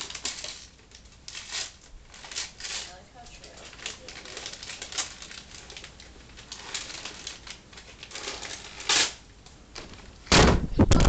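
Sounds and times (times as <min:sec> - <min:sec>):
wrapping paper rustling: 0:00.0 - 0:10.4.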